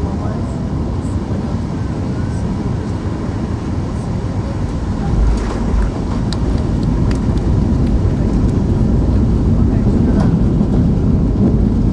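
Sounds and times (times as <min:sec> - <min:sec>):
low rumble of engines and wheels: 0:00.0 - 0:11.9.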